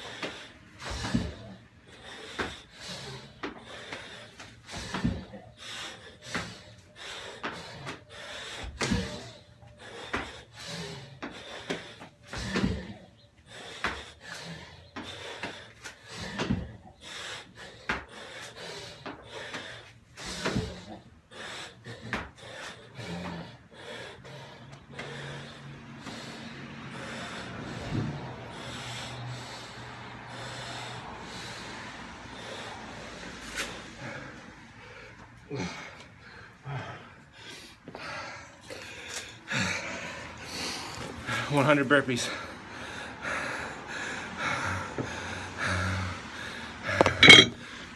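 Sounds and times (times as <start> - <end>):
hard fast breathing: 0.0 - 47.9.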